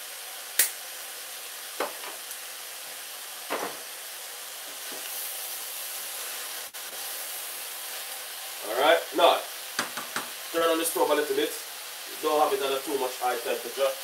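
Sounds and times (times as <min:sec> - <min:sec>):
vegetables sizzling in a pot: 0:00.0 - 0:14.0.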